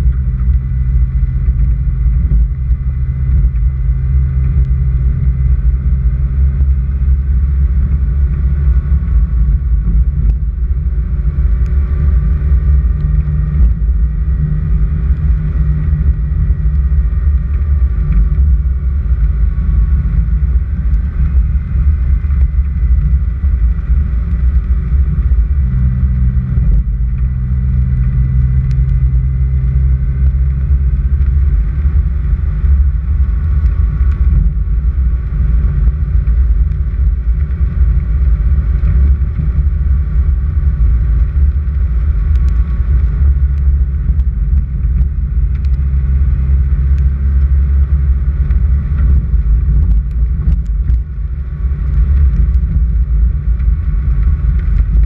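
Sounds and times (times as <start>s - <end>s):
car driving on gravel: 0.0s - 55.0s.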